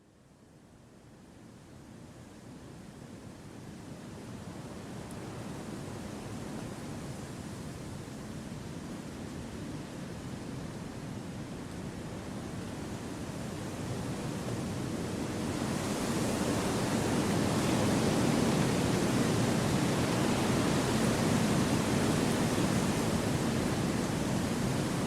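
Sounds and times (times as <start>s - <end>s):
wind rushing through trees: 2.0s - 25.0s.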